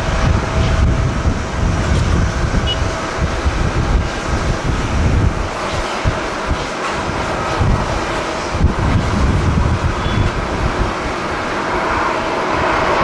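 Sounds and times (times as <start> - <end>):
jet engine noise: 0.0 - 13.0
wind buffeting microphone: 0.0 - 13.0.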